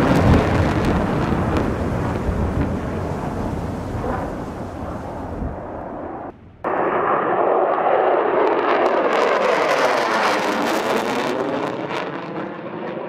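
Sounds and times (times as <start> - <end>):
jet fighter flying past: 0.0 - 13.0.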